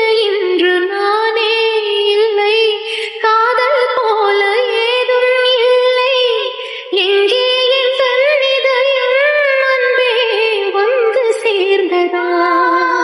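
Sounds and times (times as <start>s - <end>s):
woman singing a wavering melody: 0.0s - 13.0s.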